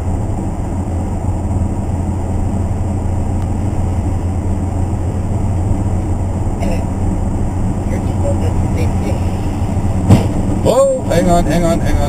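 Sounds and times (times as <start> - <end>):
car engine at highway speed: 0.0 - 12.0
tyre road noise: 0.0 - 12.0.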